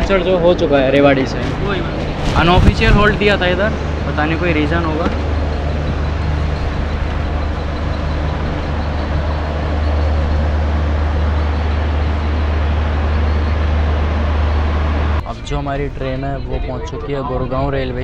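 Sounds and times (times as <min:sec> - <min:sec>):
train wheels rumbling on rails: 0:00.1 - 0:18.0
rushing noise: 0:01.2 - 0:16.4.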